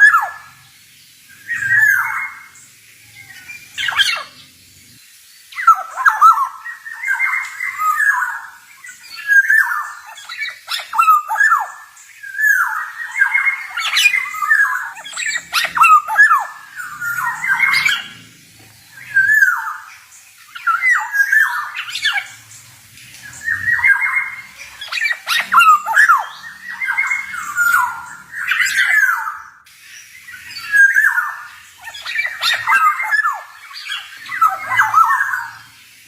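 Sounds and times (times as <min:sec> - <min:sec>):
bird singing fluty squawky notes: 0:00.0 - 0:35.8.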